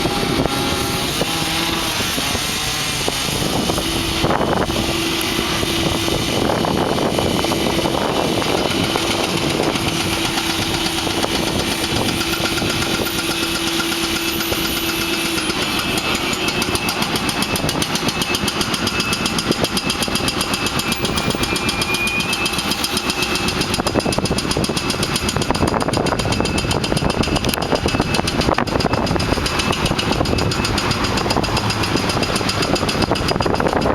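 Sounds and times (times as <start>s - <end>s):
breaker hammer pounding: 0.0s - 33.9s
demolition machinery engine: 0.0s - 33.9s.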